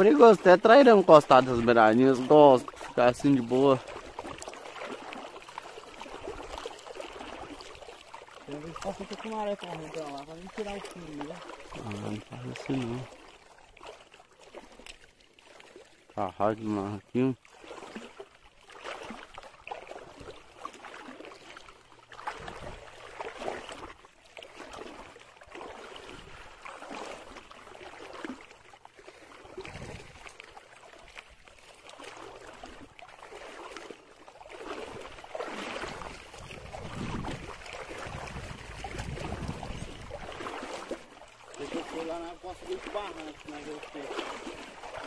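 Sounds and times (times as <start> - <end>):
water sloshing around wading legs: 0.0 - 45.0.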